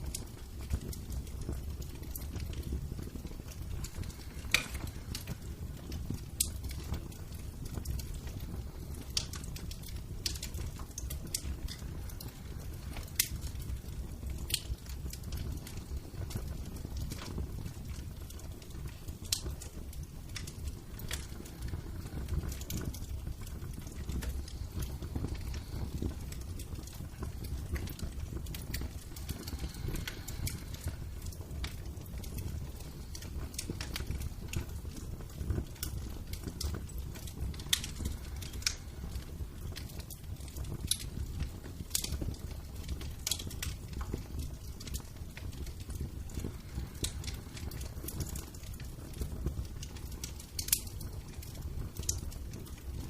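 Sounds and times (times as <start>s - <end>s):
fire crackling and popping: 0.0s - 53.0s
low fire rumble: 0.0s - 53.0s.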